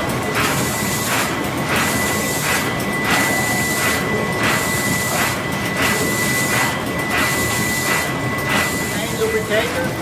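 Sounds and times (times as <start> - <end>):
steady high whine: 0.0 - 10.0
steam engine rhythmic beat: 0.0 - 10.0.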